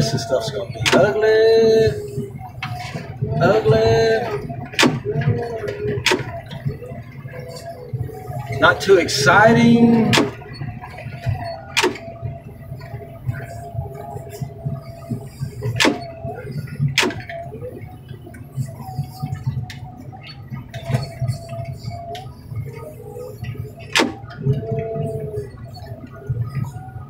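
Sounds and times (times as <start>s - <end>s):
machine whine: 0.0s - 27.0s.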